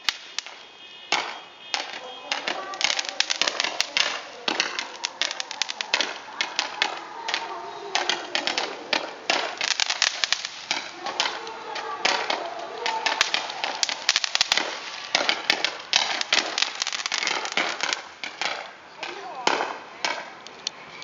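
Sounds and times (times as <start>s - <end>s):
fireworks crackling: 0.0s - 21.0s
voices: 0.0s - 21.0s.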